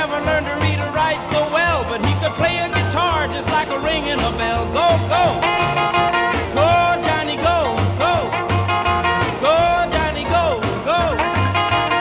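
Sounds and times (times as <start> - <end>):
upbeat rock and roll song: 0.0 - 12.0.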